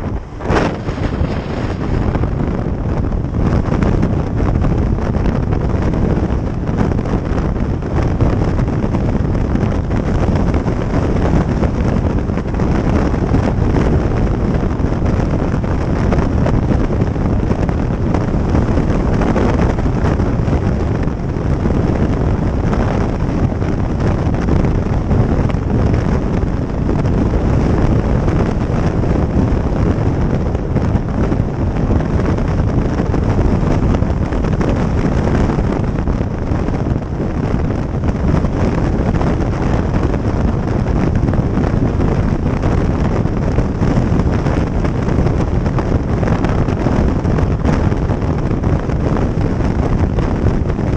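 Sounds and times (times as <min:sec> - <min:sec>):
road noise: 0:00.0 - 0:50.9
wind buffeting microphone: 0:00.0 - 0:50.9.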